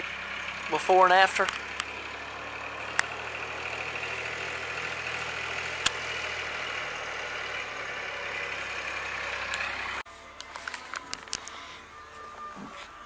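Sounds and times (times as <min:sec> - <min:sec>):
drag scraping over dirt: 0:00.0 - 0:13.0
tractor engine running: 0:00.0 - 0:13.0.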